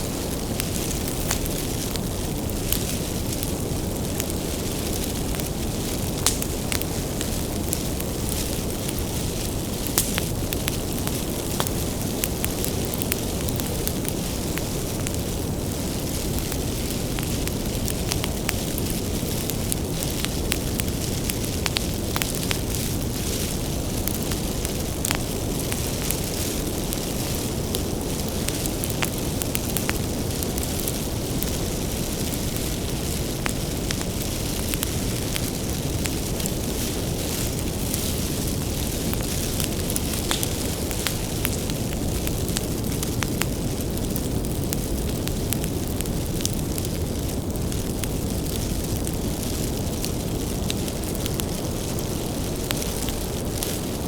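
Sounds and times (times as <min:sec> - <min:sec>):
firewood crackling and popping: 0:00.0 - 0:54.0
low rumble of flame: 0:00.0 - 0:54.0.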